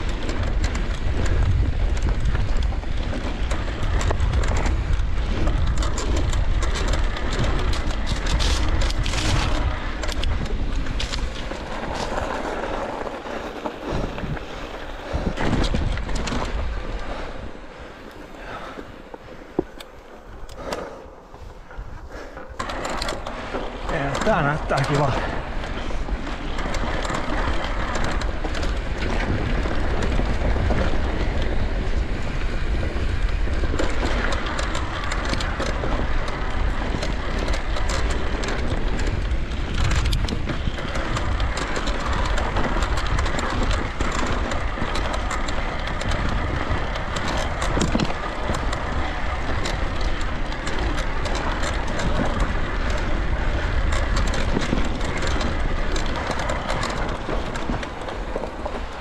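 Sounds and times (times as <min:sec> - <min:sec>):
bike rattling over rough ground: 0:00.0 - 0:59.0
wind noise on microphone: 0:00.0 - 0:59.0.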